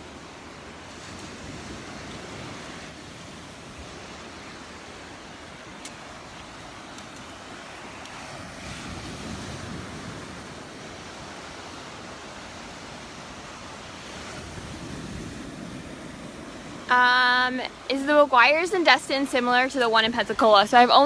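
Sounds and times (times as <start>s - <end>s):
surf washing onto beach: 0.0s - 21.0s.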